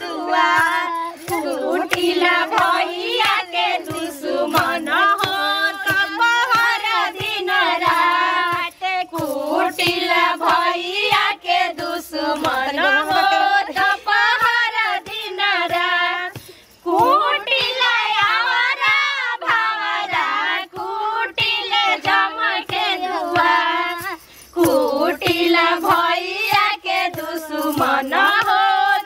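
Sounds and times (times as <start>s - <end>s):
women singing folk song: 0.0s - 29.0s.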